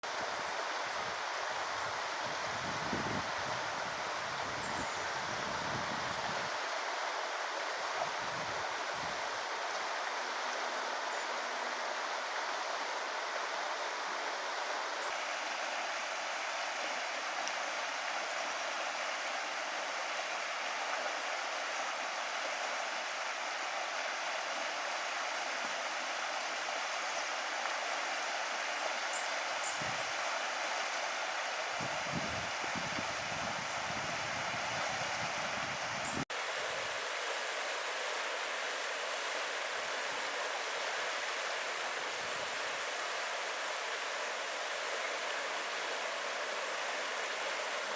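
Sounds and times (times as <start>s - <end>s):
river flowing over stones: 0.0s - 47.9s.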